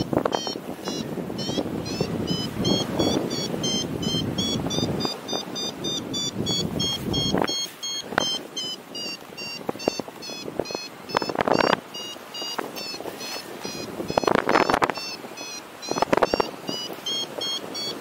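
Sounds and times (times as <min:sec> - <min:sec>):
variometer short high beeps: 0:00.0 - 0:18.0
wind gusts on microphone: 0:00.0 - 0:18.0.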